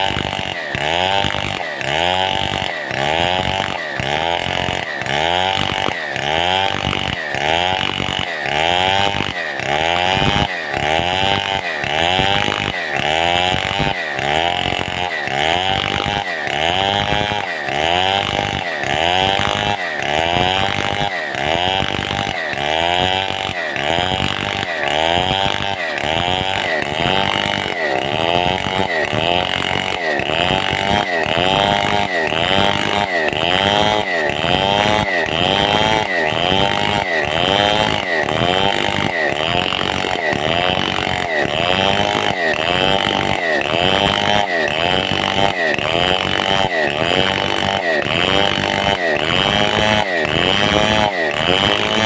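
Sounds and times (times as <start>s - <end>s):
chainsaw cutting wood: 0.0s - 52.0s.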